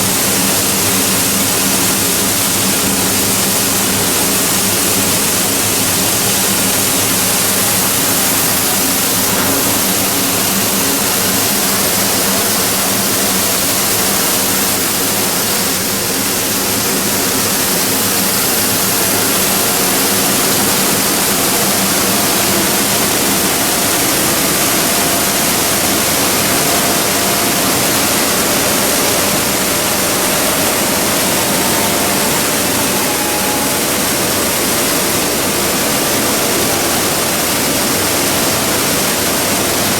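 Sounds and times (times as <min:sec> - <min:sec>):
machinery rushing noise: 0:00.0 - 0:39.9.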